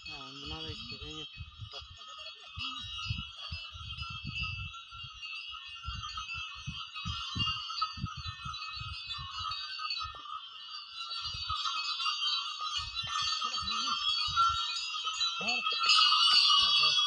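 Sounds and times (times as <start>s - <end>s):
small bells jingling: 0.0s - 17.0s.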